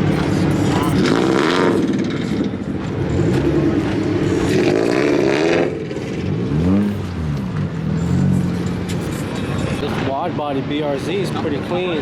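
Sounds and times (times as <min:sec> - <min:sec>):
engine revving: 0:00.0 - 0:10.0
car engines droning: 0:00.0 - 0:12.0.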